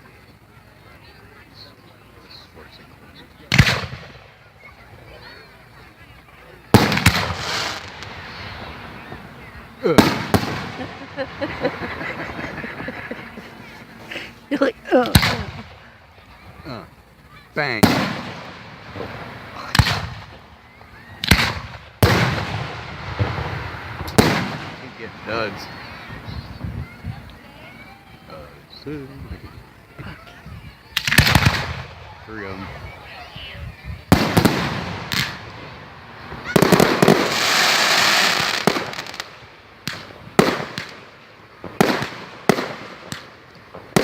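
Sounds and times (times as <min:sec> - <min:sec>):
hissing crackle: 0:02.1 - 0:44.0
fireworks exploding: 0:02.3 - 0:44.0.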